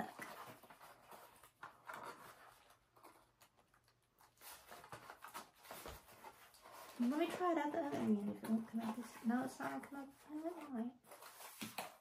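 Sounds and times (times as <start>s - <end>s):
rustling in cardboard box: 0.0s - 3.4s, 4.2s - 12.0s.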